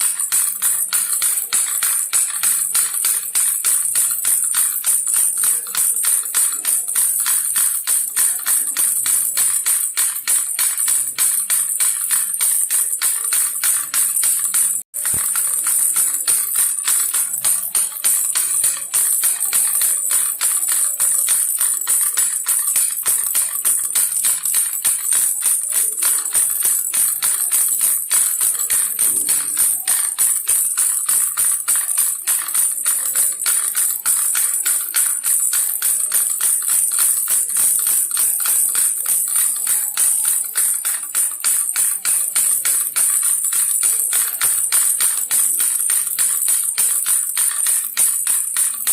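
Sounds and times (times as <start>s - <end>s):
baby rattle jingling: 0.0s - 48.9s.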